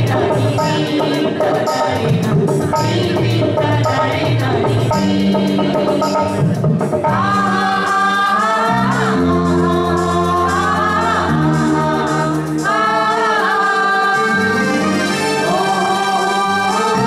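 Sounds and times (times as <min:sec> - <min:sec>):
group singing into microphones: 0:00.0 - 0:17.0.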